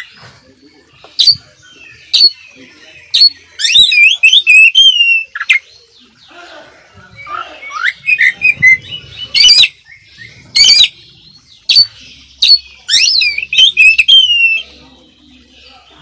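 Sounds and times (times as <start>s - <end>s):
bird singing whistled notes: 0.0s - 6.3s, 7.0s - 16.0s
harsh rasping bird calls: 0.0s - 16.0s.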